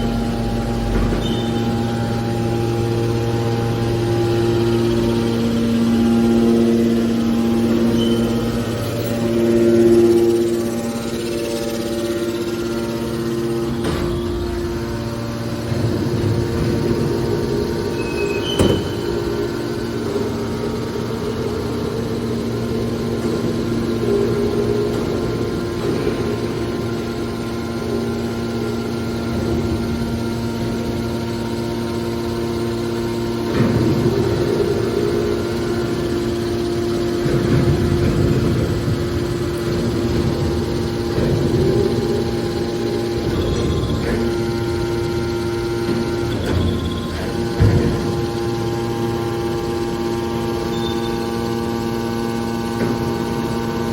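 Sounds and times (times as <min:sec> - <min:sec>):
low rumbling: 0:00.0 - 0:50.4
baler motor and pump hum: 0:00.0 - 0:53.9.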